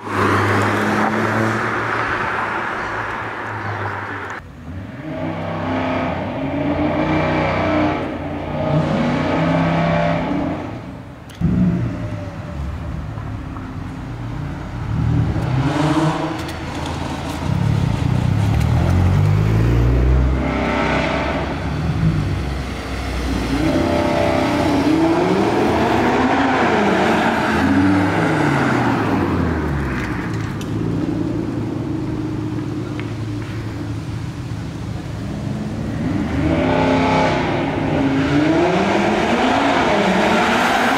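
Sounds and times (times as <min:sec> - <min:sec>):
cars revving and accelerating: 0:00.0 - 0:40.9.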